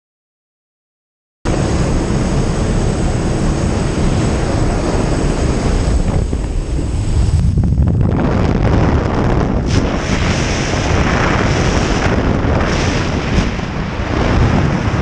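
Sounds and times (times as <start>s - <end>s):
plane engine: 1.5s - 15.0s
wind buffeting microphone: 1.5s - 15.0s.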